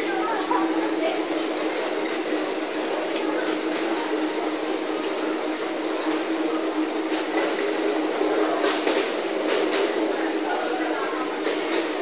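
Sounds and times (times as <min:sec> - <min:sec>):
shuttle train wheels rumbling: 0:00.0 - 0:12.0.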